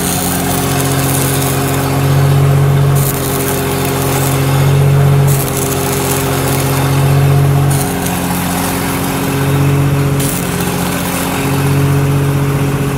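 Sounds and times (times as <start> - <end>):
low drone: 0.0 - 12.9
welding arc crackling: 0.0 - 12.9.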